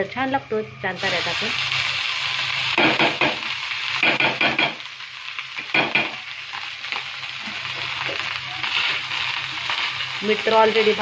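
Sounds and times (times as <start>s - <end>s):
oil and spices sizzling: 0.0s - 11.0s.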